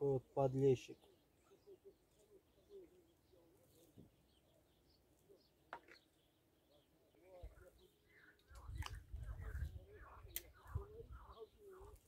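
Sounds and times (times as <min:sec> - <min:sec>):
distant bird calls: 0:00.1 - 0:12.0.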